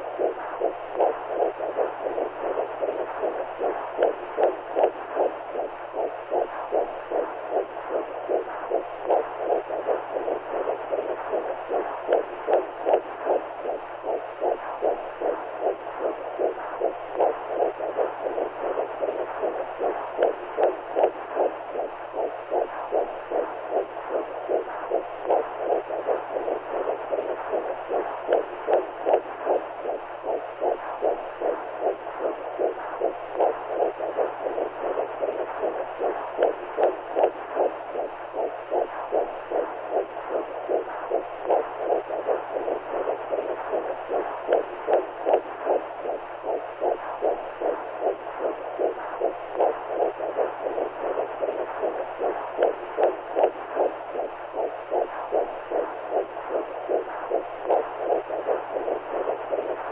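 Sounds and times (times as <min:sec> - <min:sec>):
heartbeat-like pulse: 0:00.0 - 0:59.9.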